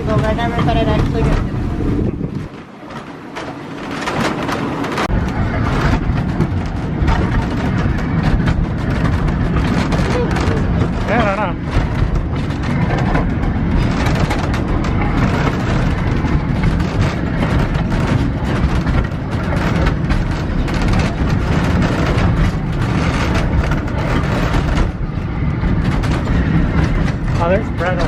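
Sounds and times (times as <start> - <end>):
train rumbling and rattling: 0.0 - 28.0.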